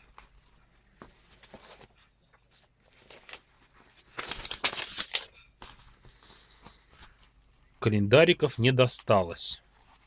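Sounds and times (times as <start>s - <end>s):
bubble wrap crinkling: 0.0s - 7.9s, 9.6s - 10.0s.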